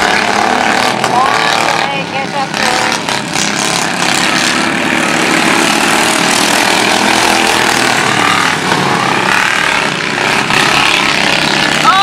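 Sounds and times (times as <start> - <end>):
racing lawn mower engines: 0.0 - 12.0.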